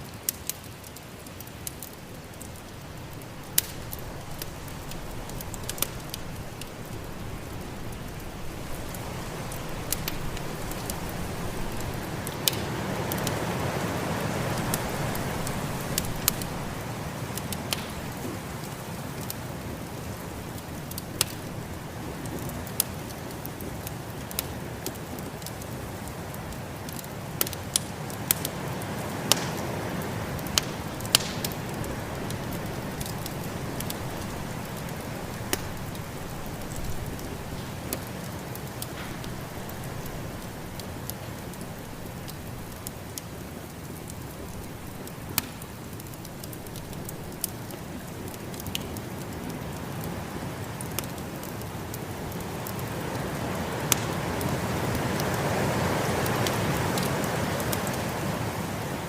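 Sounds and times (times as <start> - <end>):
rushing hiss of storm wind: 0.0 - 59.0
wood fire crackling and popping: 0.0 - 59.0.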